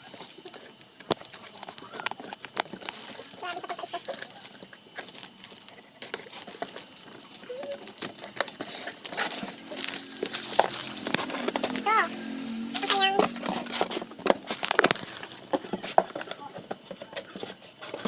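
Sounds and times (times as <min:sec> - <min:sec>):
packaging clicks and rustles: 0:00.0 - 0:12.2, 0:12.8 - 0:18.0.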